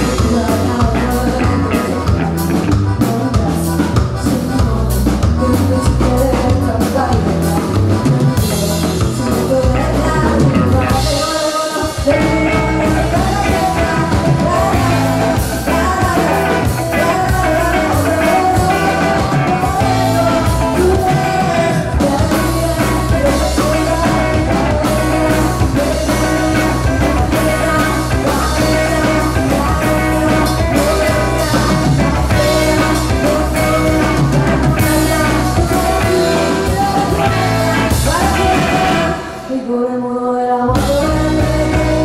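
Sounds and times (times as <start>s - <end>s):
drum kit: 0.0s - 39.6s, 40.7s - 42.0s
bass guitar: 0.0s - 39.8s, 40.7s - 42.0s
electric guitars: 0.0s - 40.0s, 40.6s - 42.0s
woman singing: 0.0s - 42.0s.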